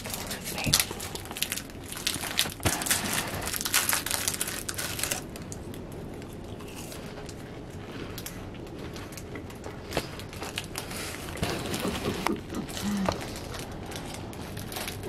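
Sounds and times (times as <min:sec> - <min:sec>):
plastic wrapper crinkling: 0:00.0 - 0:15.0.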